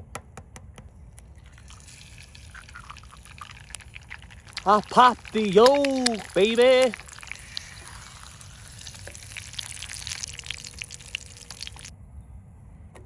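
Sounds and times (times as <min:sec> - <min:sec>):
egg sizzling in a pan: 0:01.2 - 0:11.9.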